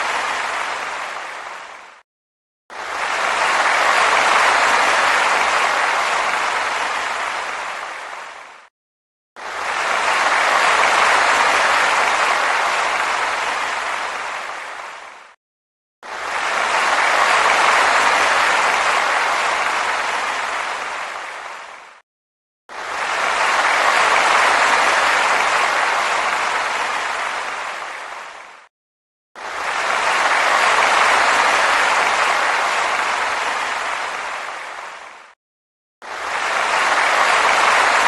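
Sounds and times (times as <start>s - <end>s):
audience applause: 0.0s - 2.0s, 2.7s - 8.7s, 9.4s - 15.4s, 16.0s - 22.0s, 22.7s - 28.7s, 29.4s - 35.4s, 36.0s - 38.0s.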